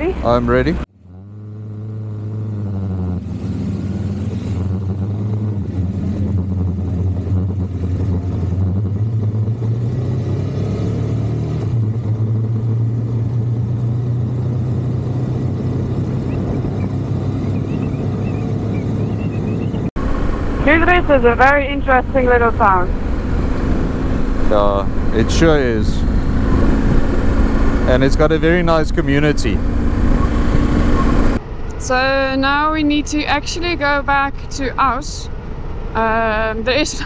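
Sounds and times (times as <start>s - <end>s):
motorcycle engine pulling away: 0.2s - 21.3s, 22.2s - 31.4s.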